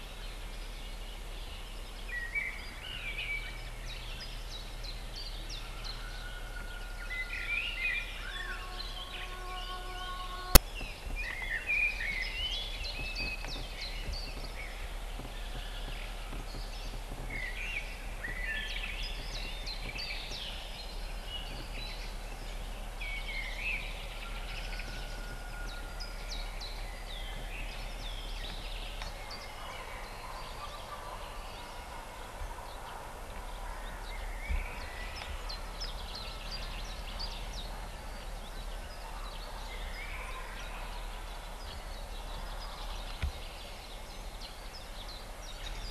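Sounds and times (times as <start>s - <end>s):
outdoor background hiss: 0.0s - 45.9s
small birds chirping: 0.0s - 45.9s.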